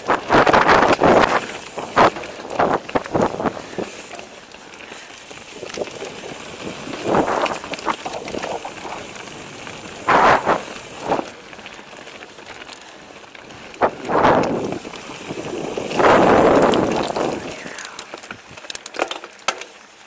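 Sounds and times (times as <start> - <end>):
bike rattling: 0.0 - 20.0
bike tyres crunching on trail: 0.0 - 20.0.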